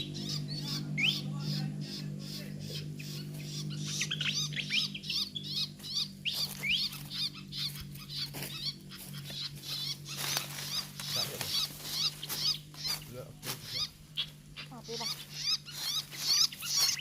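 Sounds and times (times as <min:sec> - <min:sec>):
bird chattering chirps: 0:00.0 - 0:17.0
steady low hum: 0:00.0 - 0:17.0.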